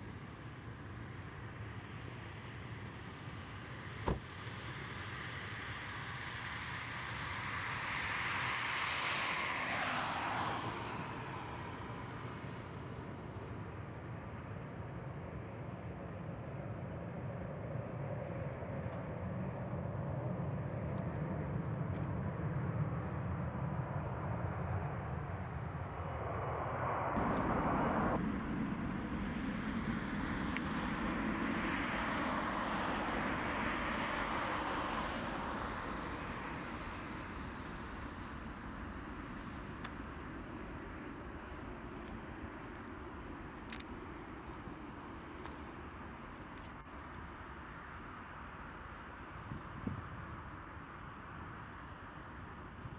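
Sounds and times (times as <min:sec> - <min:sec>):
jet engines roaring: 0:00.0 - 0:48.0.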